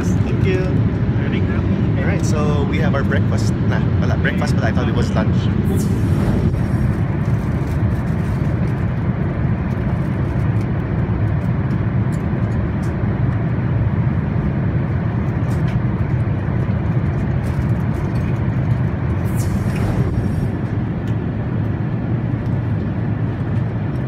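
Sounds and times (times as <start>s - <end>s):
airplane cabin rumble: 0.0s - 24.0s.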